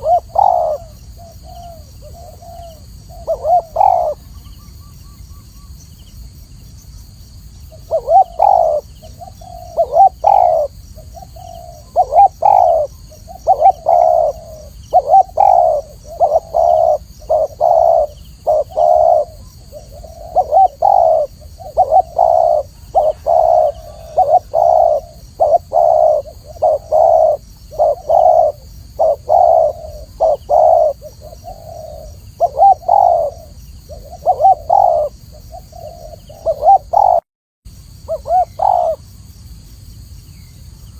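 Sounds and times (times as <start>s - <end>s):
dove cooing: 0.0s - 4.7s, 7.7s - 37.3s, 38.1s - 39.0s.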